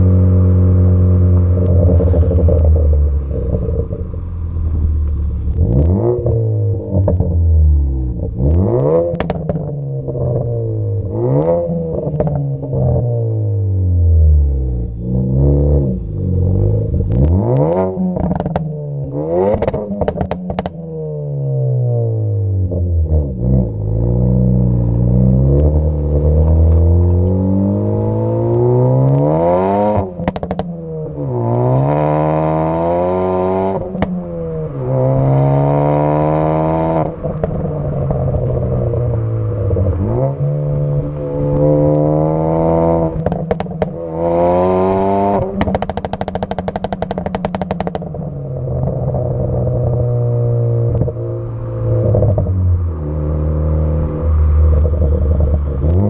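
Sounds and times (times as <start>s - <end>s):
exhaust popping and crackling: 0.0s - 13.2s, 14.0s - 56.0s
car engine revving: 0.0s - 56.0s.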